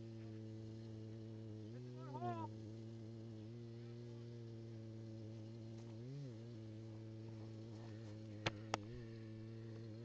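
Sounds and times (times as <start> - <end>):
low buzzing hum: 0.0 - 10.0.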